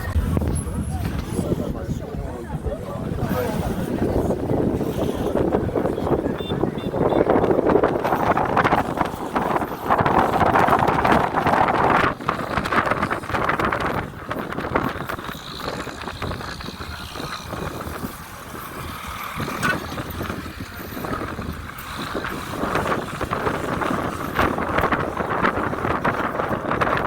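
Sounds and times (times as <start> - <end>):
moving vehicle noise: 0.0 - 27.0
wind buffeting microphone: 0.0 - 27.0.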